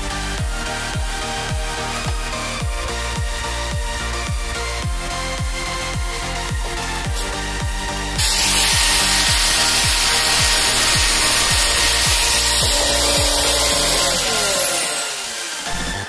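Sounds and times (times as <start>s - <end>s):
angle grinder cutting steel: 0.0s - 16.0s.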